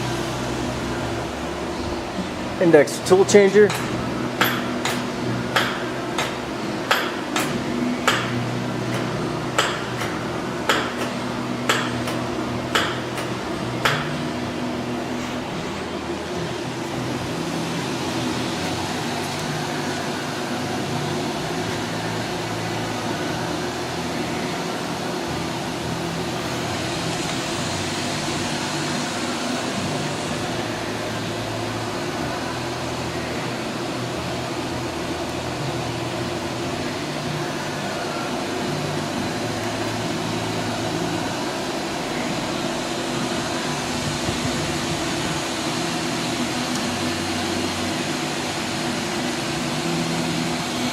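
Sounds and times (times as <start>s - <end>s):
machining center mechanical hum: 0.0s - 50.9s.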